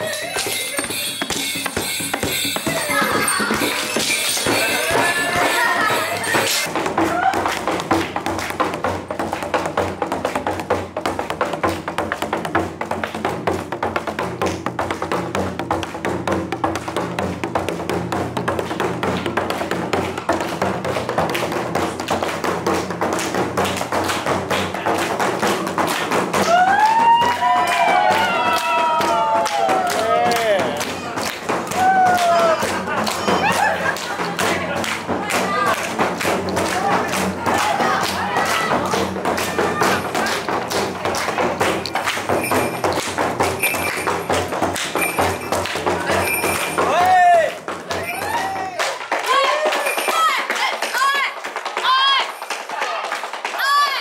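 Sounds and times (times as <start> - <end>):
music: 0.0 - 50.1
frame drum beaten with stick: 0.5 - 48.8.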